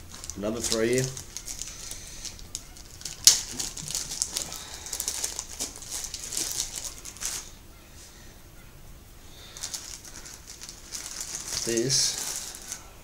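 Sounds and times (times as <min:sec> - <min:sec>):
packaging rustling and crinkling: 0:00.0 - 0:07.6, 0:09.4 - 0:12.9.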